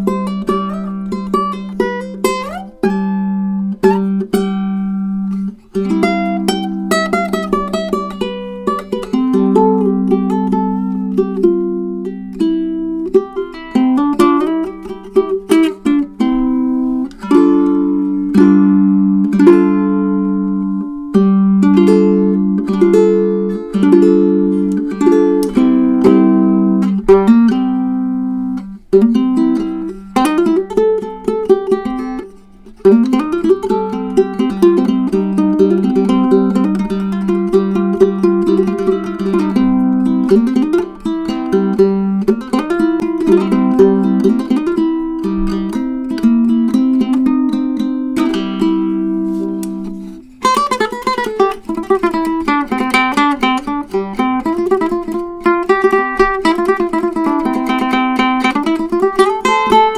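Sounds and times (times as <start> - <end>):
ukulele playing: 0.0 - 59.9.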